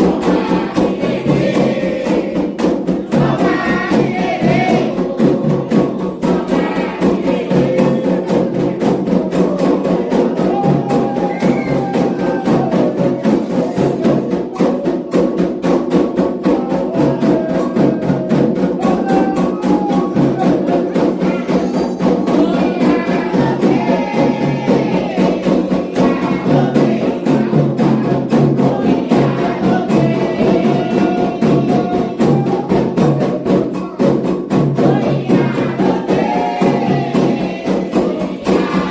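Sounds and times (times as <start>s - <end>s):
group singing a chant: 0.0s - 38.9s
hand drums playing fast rhythm: 0.0s - 38.9s.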